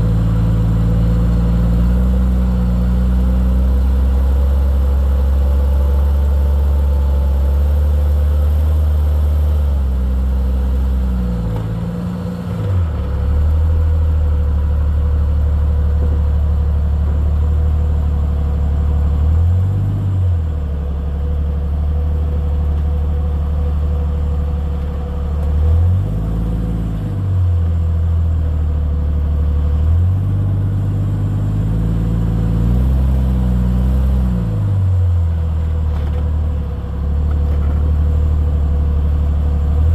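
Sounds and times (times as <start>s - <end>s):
engine with throttle blips: 0.0s - 39.9s.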